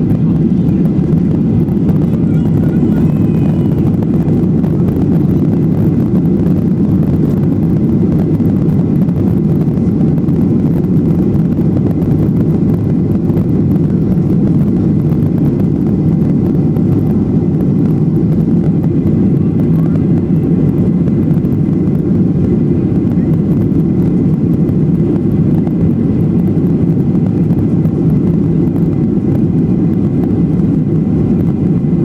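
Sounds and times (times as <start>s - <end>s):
jet engines rumbling in cabin: 0.0s - 32.0s.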